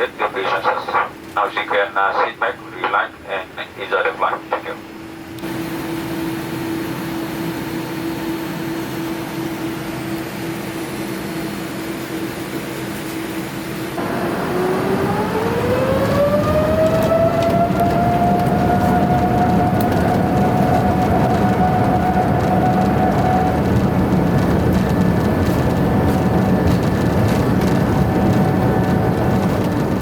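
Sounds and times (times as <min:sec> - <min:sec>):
jet engines spooling up: 0:03.3 - 0:30.0.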